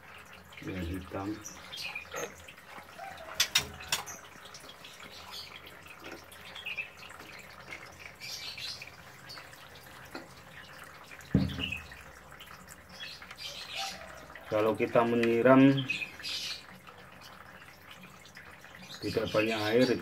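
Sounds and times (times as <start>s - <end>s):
birds chirping: 0.2s - 20.0s.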